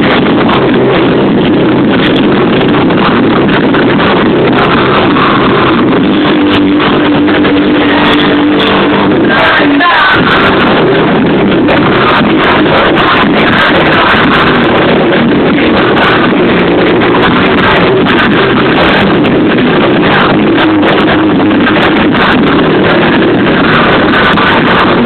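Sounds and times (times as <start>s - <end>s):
loud amplified live music: 0.0s - 25.0s
steady held note: 0.0s - 25.0s.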